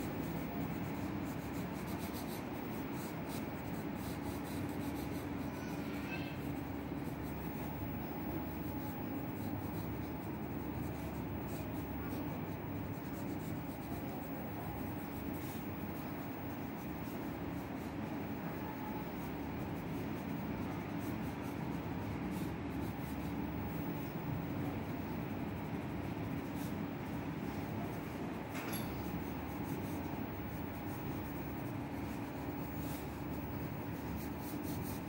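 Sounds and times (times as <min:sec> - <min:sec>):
pencil scratching on paper: 0:00.0 - 0:35.0.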